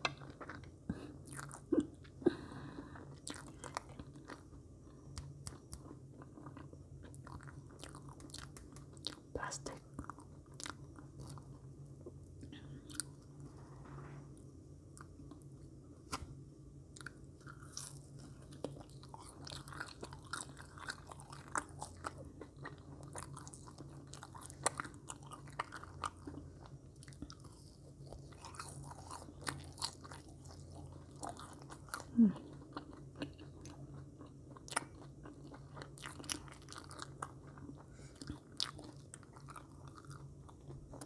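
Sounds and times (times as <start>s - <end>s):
low steady hum: 0.0s - 41.0s
close chewing mouth sounds: 0.1s - 2.2s, 3.0s - 11.6s, 17.0s - 41.0s.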